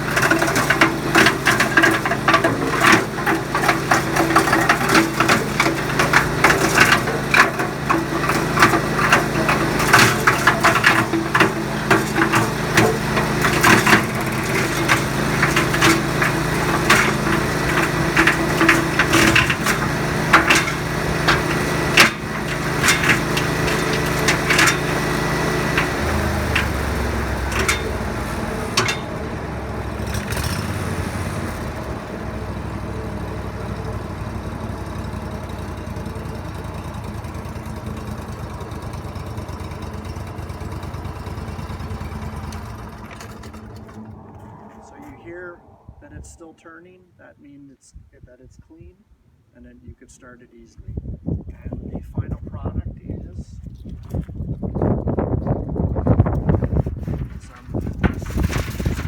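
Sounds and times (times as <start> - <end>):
wood chipper splintering branches: 0.0 - 46.6, 54.8 - 59.0
engine hum: 0.0 - 59.0.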